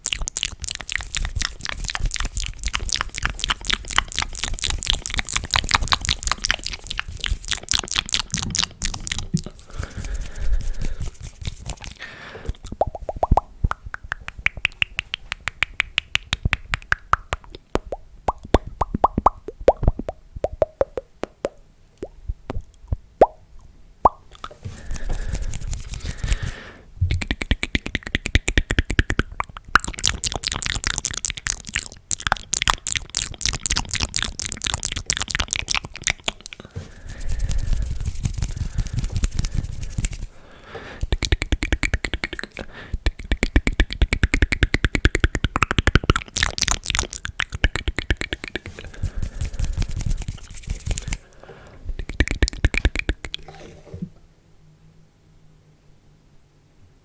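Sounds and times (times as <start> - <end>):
wet mouth clicks and pops: 0.0 - 40.3, 41.0 - 51.3, 51.9 - 53.6.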